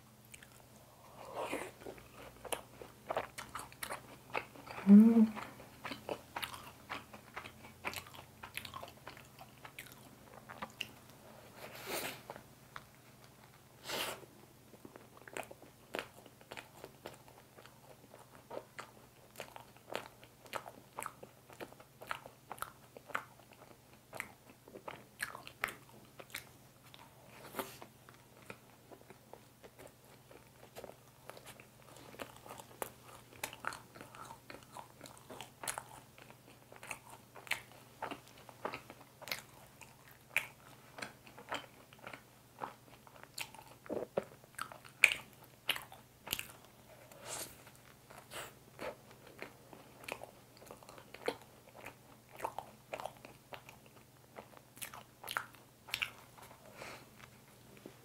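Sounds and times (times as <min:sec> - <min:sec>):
faint steady hum: 0:00.0 - 0:58.0
chewing and biting bun: 0:00.3 - 0:11.2, 0:14.7 - 0:57.5.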